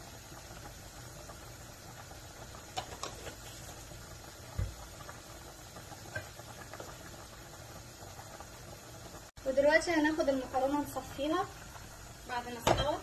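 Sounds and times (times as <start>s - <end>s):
pasta water boiling: 0.0s - 13.0s.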